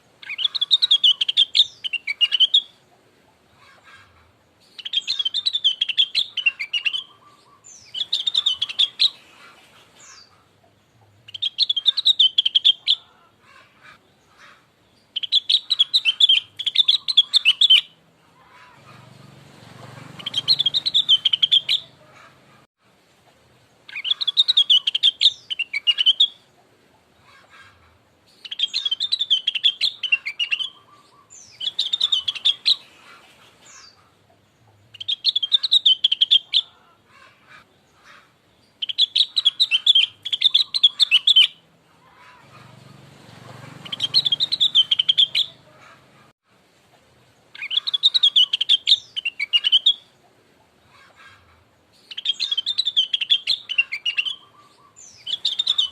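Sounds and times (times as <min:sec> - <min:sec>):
bird warbling and chirping: 0:00.2 - 0:02.8, 0:03.6 - 0:22.7, 0:23.9 - 0:26.5, 0:27.2 - 0:46.3, 0:47.5 - 0:50.2, 0:50.8 - 0:55.9.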